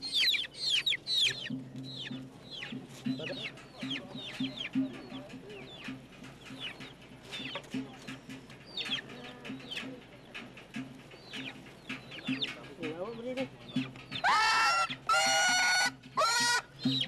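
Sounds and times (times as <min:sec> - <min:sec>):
chickens squawking and clucking: 0:00.0 - 0:12.6, 0:13.6 - 0:17.0.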